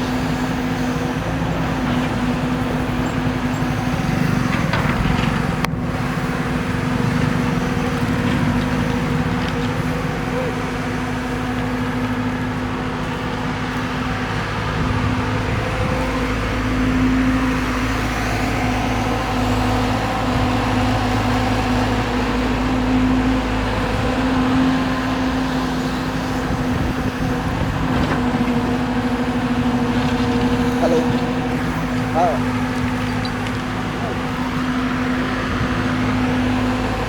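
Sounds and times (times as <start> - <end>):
excavator diesel engine humming: 0.0 - 37.0.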